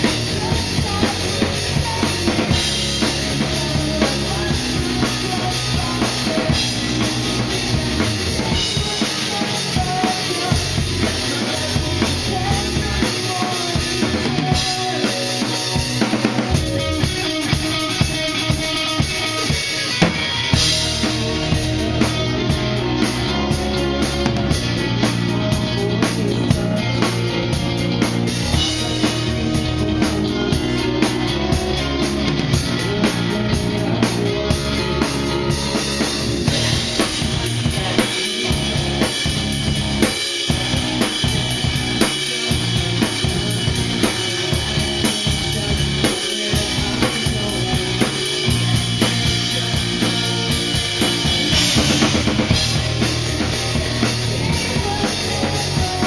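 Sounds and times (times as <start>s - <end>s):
drum kit beat: 0.0s - 56.0s
rock band playing: 0.0s - 56.0s.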